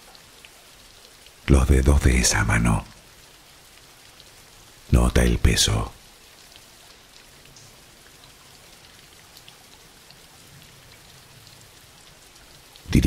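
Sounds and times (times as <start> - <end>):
raindrops ticking: 0.0 - 13.0
steady rainfall: 0.0 - 13.0.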